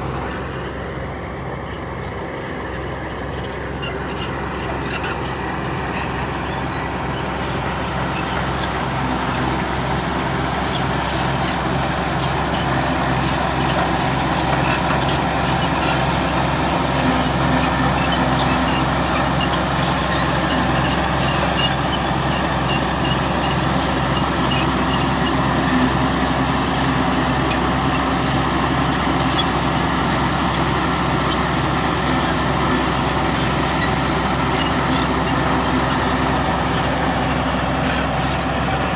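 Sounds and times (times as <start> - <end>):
bulldozer engine running: 0.0 - 38.9.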